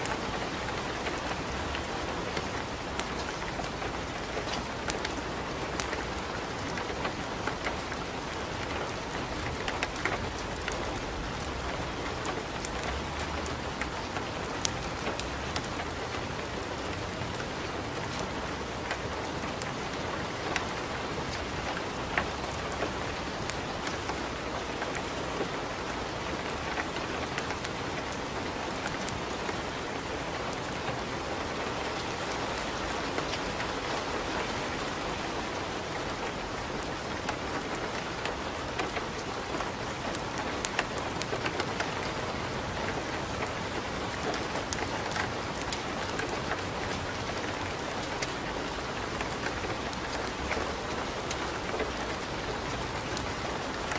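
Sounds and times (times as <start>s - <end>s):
wood fire crackling and popping: 0.0s - 16.0s, 17.4s - 30.8s, 35.8s - 53.9s
steady rain: 0.0s - 53.9s.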